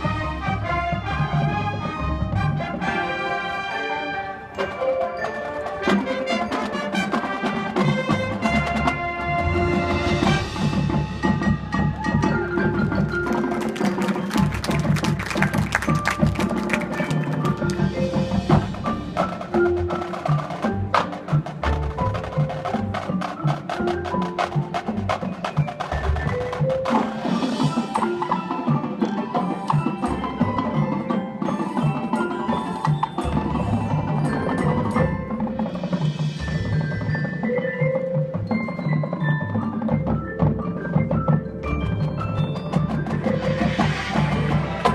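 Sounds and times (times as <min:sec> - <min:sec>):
marching band playing: 0:00.0 - 0:44.9
drum and mallet strikes: 0:04.6 - 0:44.9.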